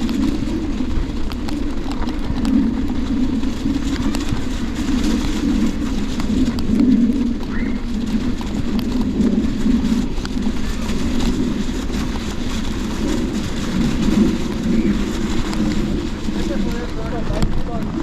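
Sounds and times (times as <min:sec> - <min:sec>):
bike tyres rolling over snow: 0:00.0 - 0:18.0.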